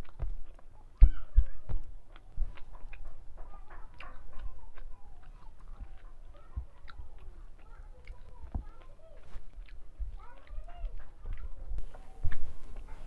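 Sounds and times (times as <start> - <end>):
fingers squishing food on steel plate: 0.0 - 13.0
person chewing food: 0.0 - 13.0.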